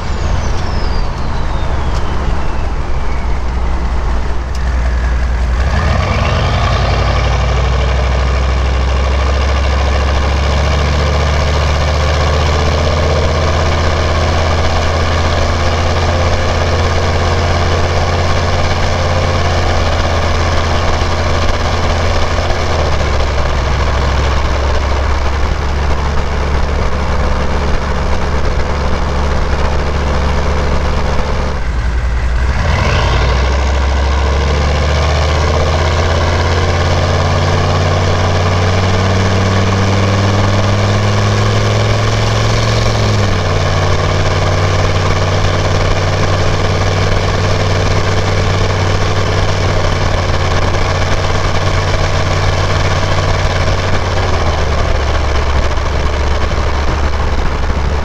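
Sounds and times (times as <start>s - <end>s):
diesel truck engine accelerating: 0.0s - 58.0s
wind and road noise: 0.0s - 58.0s.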